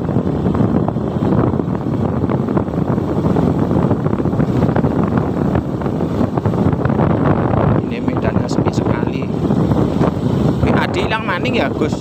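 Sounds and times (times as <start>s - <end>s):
road and vehicle noise: 0.0s - 12.0s
wind buffeting microphone: 0.0s - 12.0s.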